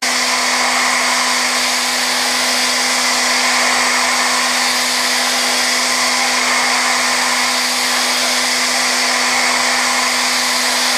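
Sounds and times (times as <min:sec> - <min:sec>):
milling machine spindle hum: 0:00.0 - 0:10.9
loud cutting hiss: 0:00.3 - 0:10.9.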